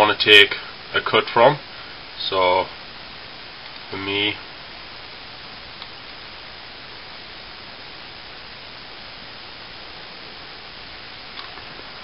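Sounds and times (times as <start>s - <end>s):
recording hiss: 0.0s - 12.0s.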